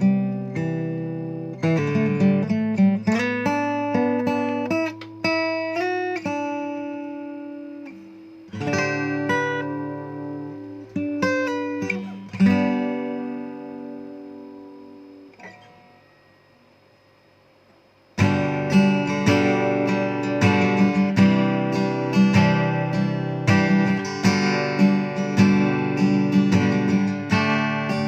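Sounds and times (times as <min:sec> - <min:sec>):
acoustic guitar playing: 0:00.0 - 0:16.6, 0:18.0 - 0:28.0.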